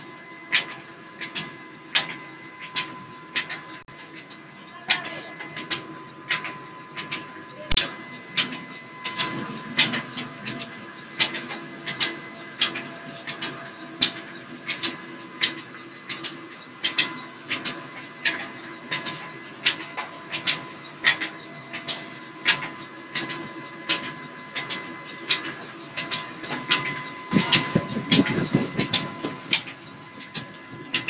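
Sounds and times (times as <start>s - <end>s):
oil expeller machine humming: 0.0s - 31.0s.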